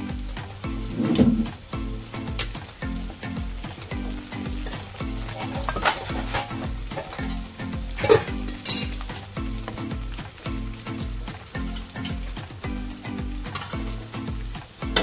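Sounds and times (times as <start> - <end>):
food sizzling in hot oil: 0.0 - 15.0
music with repeating bass beat: 0.0 - 15.0.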